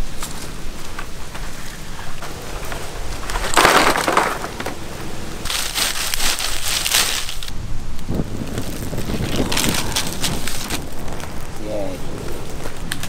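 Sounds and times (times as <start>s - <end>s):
dry palm leaves crunching: 0.1s - 7.6s, 8.4s - 13.0s.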